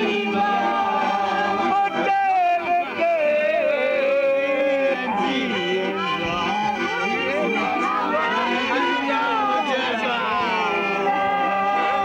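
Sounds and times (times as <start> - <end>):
people singing a folk song: 0.0 - 12.0
people talking: 0.0 - 12.0
voice holding long notes: 0.0 - 12.0.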